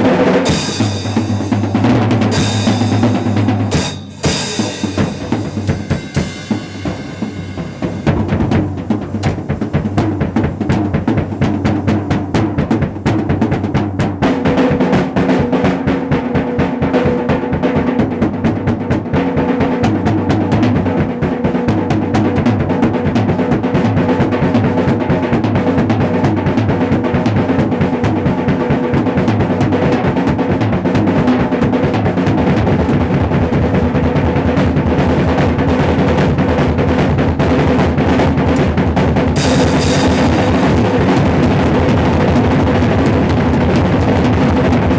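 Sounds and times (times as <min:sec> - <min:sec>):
drum kit solo: 0:00.0 - 0:44.9.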